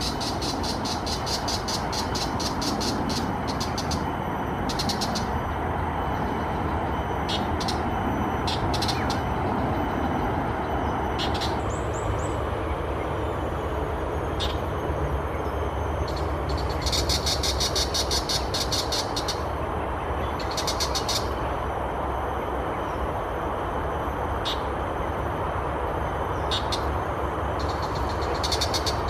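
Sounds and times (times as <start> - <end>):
steady rumble: 0.0 - 29.0.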